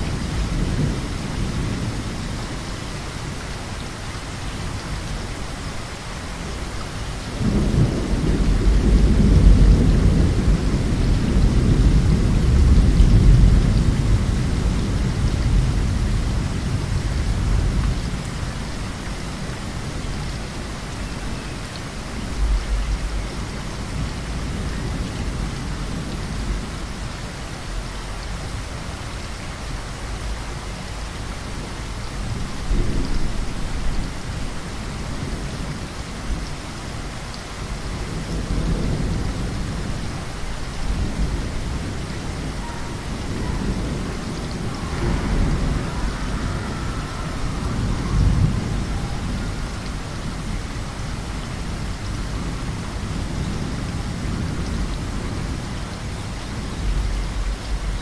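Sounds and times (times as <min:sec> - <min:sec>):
rolling thunder: 0:00.0 - 0:03.4, 0:07.2 - 0:27.1, 0:29.8 - 0:36.4, 0:37.4 - 0:58.0
heavy rain: 0:00.0 - 0:58.0.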